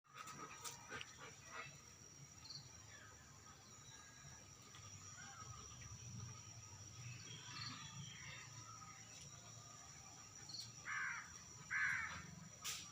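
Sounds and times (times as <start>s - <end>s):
high-pitched insect hum: 0.1s - 12.9s
birds chirping: 0.2s - 12.4s.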